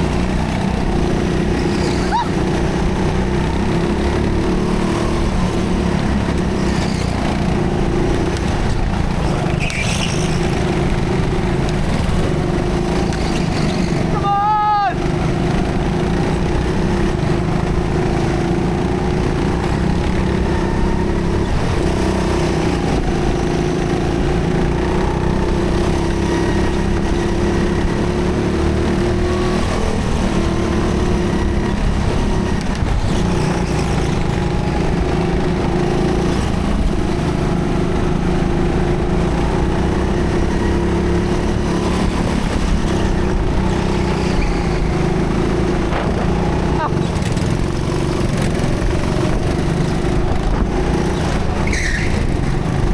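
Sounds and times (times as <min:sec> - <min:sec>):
go-kart motor droning: 0:00.0 - 0:52.9.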